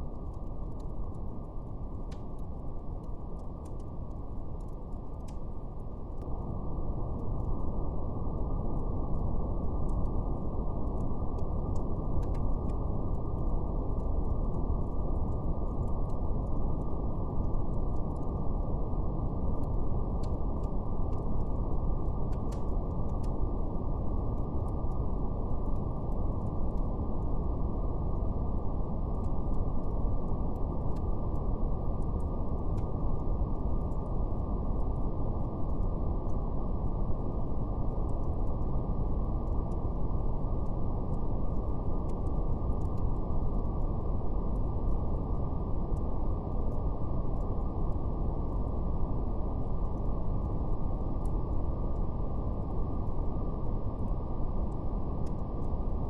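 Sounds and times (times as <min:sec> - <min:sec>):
brown noise rumbling hiss: 0:00.0 - 0:56.0
fire crackling: 0:00.0 - 0:56.0.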